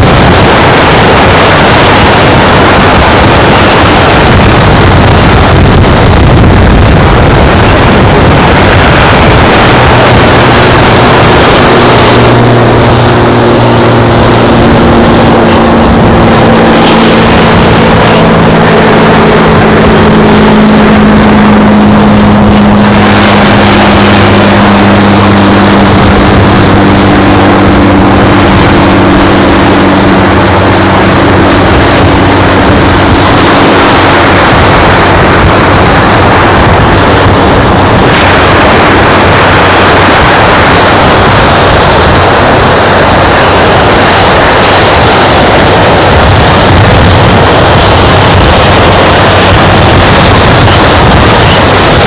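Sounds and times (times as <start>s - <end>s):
low engine drone: 0.0s - 52.0s
surf at the shore: 0.0s - 52.0s
wind rushing: 0.0s - 52.0s.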